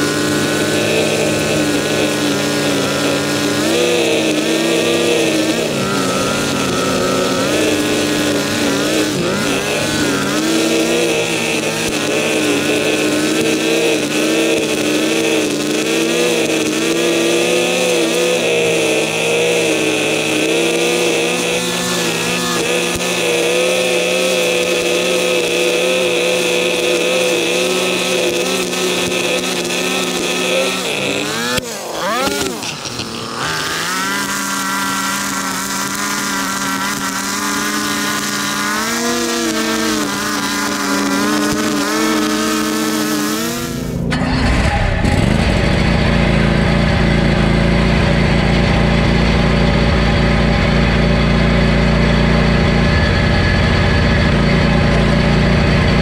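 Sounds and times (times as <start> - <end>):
string trimmer engine running: 0.0 - 56.0.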